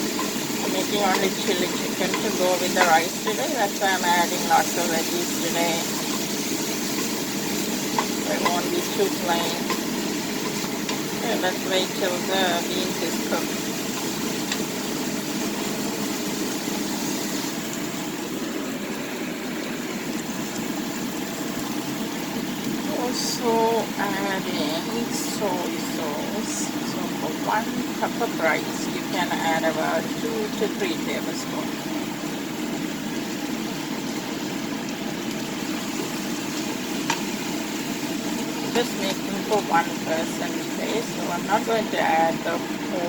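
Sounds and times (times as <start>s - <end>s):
steady hum and hiss: 0.0s - 43.0s
vegetables cooking in a pan: 0.0s - 43.0s.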